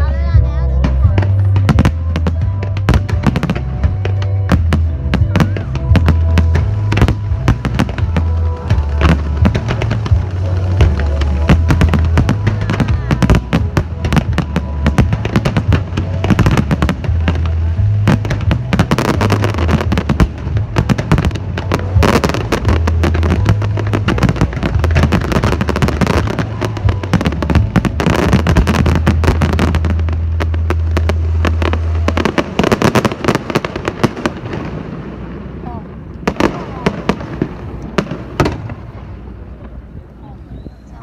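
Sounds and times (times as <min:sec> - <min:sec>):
loud music with heavy bass: 0:00.0 - 0:33.6
fireworks bangs and crackles: 0:00.0 - 0:40.2.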